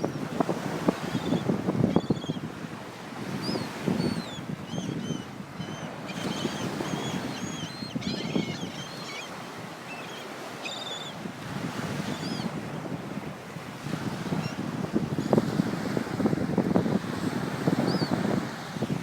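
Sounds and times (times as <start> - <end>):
wind buffeting microphone: 0.0 - 9.8, 11.2 - 19.0
surf washing in: 0.0 - 19.0.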